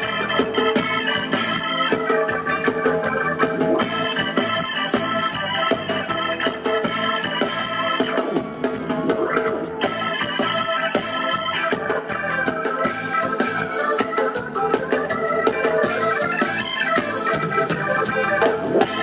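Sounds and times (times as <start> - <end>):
organ-like keyboard chords: 0.0 - 19.0
steady drum beat: 0.0 - 19.0.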